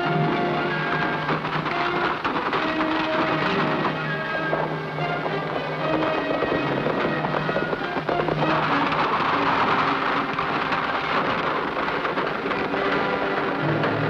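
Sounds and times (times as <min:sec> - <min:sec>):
background music with held notes: 0:00.0 - 0:14.0
steady rough noise: 0:00.0 - 0:14.0.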